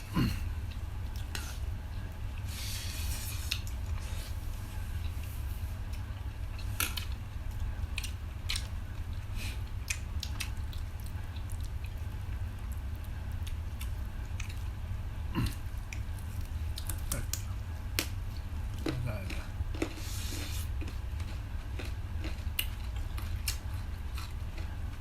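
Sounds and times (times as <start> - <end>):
people chewing: 0.0 - 25.0
steady low hum: 0.0 - 25.0.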